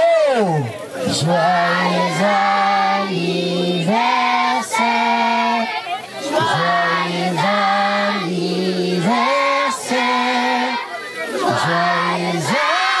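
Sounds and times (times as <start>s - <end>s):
group of voices singing: 0.6s - 13.0s.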